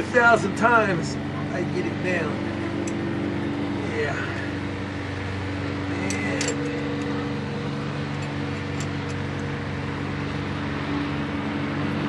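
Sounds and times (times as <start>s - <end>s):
mechanical hum with held tones: 0.0s - 12.0s.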